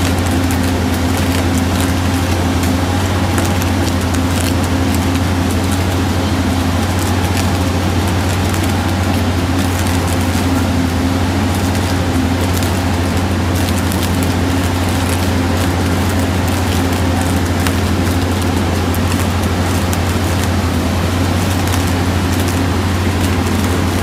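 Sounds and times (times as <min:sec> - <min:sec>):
crackling sparks: 0:00.0 - 0:24.0
rail welder humming: 0:00.0 - 0:24.0.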